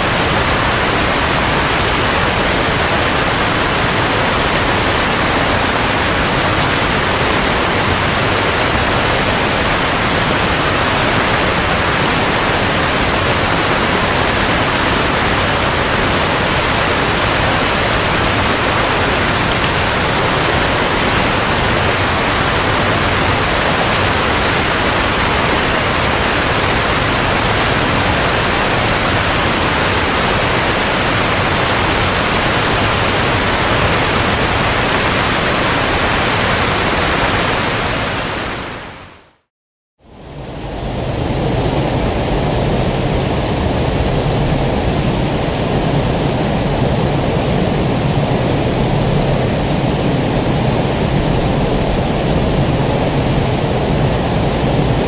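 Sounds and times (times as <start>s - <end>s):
falling water rushing: 0.0s - 39.4s, 40.2s - 55.0s.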